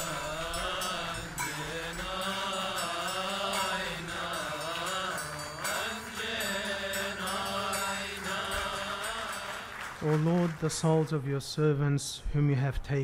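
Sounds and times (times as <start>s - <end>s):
person chanting a prayer: 0.0s - 11.6s.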